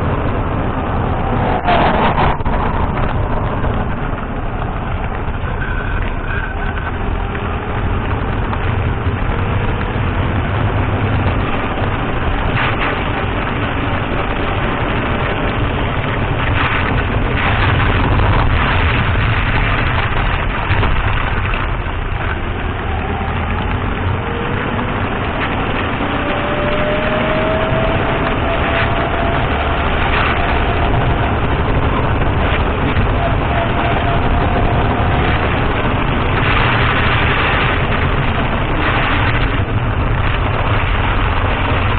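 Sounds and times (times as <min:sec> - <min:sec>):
car engine running: 0:00.0 - 0:41.9
tyre and road rumble: 0:00.0 - 0:41.9.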